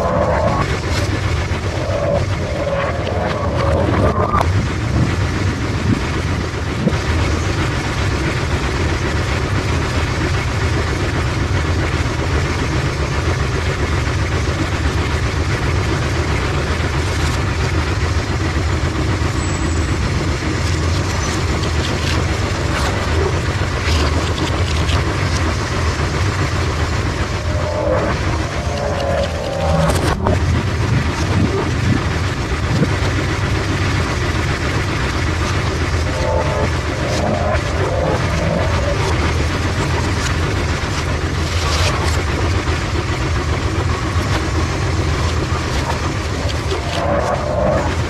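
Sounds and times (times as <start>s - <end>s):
pinsetter mechanical rumble: 0.0s - 48.0s.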